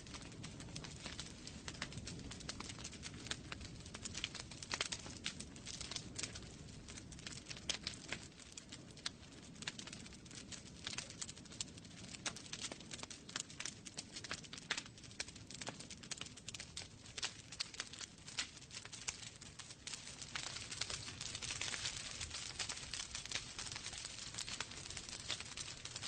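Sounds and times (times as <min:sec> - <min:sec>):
flames rumbling: 0:00.0 - 0:26.0
wood fire crackling and popping: 0:00.0 - 0:26.0.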